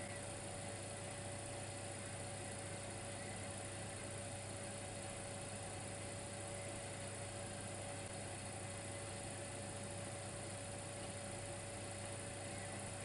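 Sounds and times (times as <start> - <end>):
electric fireplace hum: 0.0 - 13.0
faint constant whine: 0.0 - 13.0.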